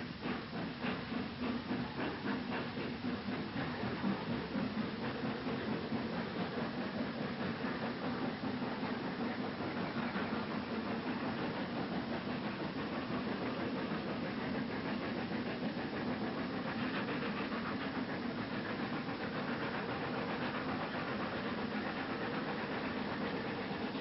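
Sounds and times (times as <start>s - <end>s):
steam locomotive passing: 0.0s - 24.0s.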